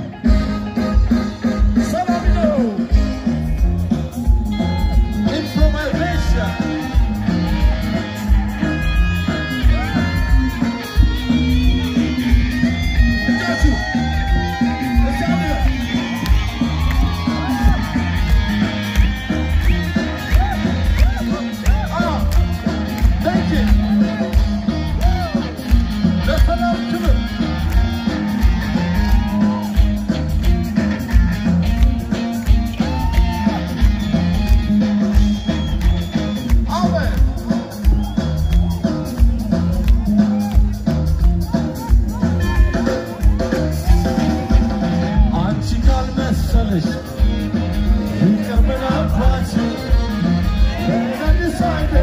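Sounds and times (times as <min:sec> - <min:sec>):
bass and drum beat: 0:00.0 - 0:52.0
live band playing pop song: 0:00.0 - 0:52.0.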